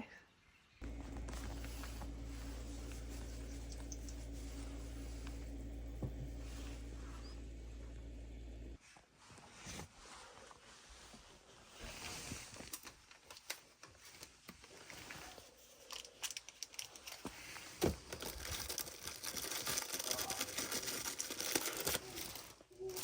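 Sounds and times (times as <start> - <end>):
crinkling and rustling: 0.8 - 23.0.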